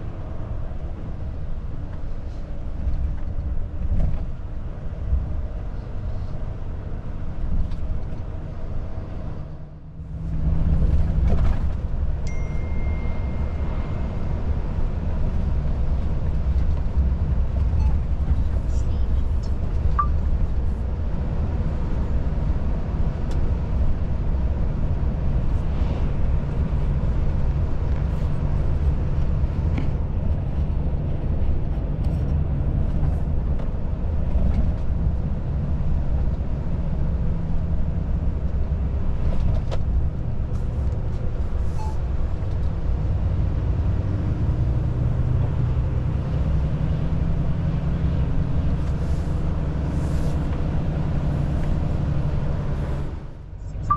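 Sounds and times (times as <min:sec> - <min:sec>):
road and tyre noise: 0:00.0 - 0:53.9.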